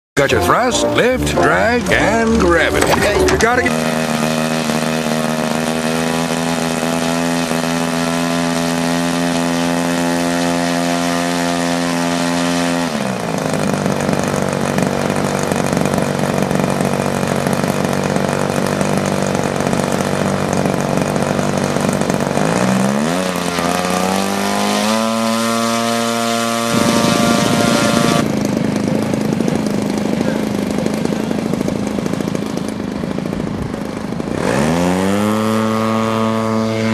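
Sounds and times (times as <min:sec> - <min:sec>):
model airplane engine running: 0:02.2 - 0:36.9.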